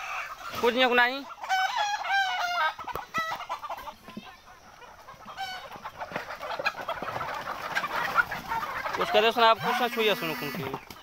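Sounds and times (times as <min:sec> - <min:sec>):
chickens clucking: 0:00.0 - 0:11.0
hens squawking: 0:00.0 - 0:11.0.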